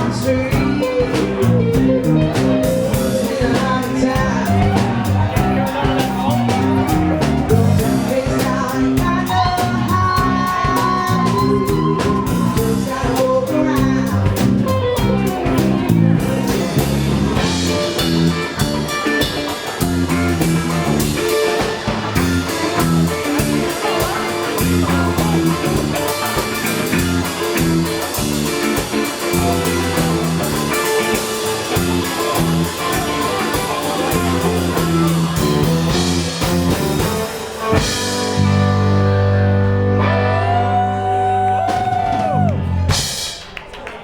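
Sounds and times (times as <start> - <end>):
blues-rock band playing: 0.0 - 43.9.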